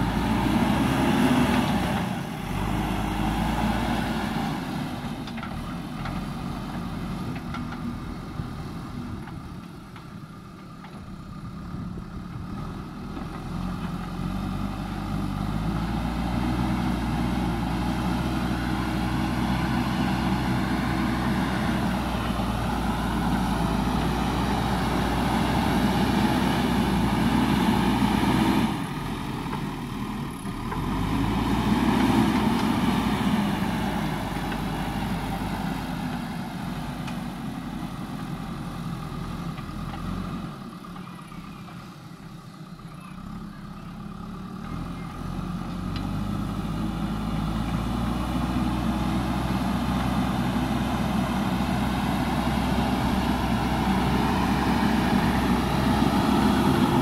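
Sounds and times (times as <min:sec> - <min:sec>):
diesel engine working: 0:00.0 - 0:57.0.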